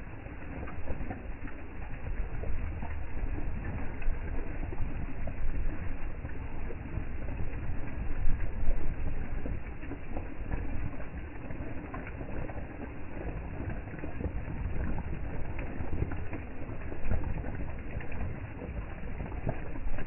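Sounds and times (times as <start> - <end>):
heavy rain falling: 0.0 - 20.0
wind rumble on microphone: 0.0 - 20.0.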